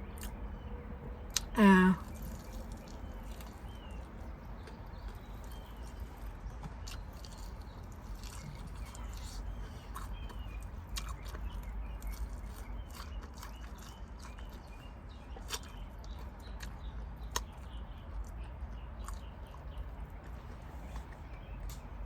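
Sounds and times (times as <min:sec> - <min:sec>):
low steady hum: 0:00.0 - 0:22.0
wet mouth clicks chewing: 0:00.1 - 0:00.4, 0:01.3 - 0:22.0.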